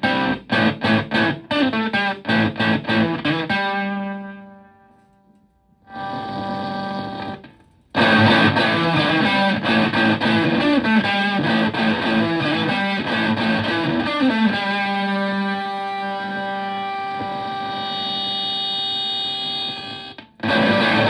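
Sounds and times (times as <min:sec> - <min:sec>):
fuzzed electric guitar: 0:00.0 - 0:21.0.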